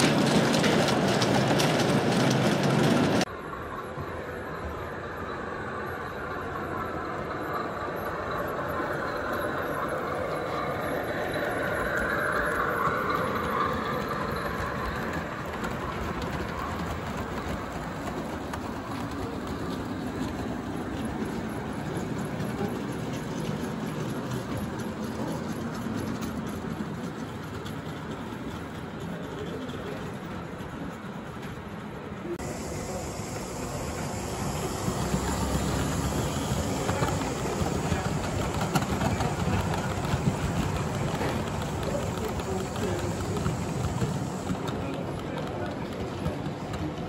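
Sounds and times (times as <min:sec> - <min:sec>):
model train rumbling on track: 0:00.0 - 0:47.0.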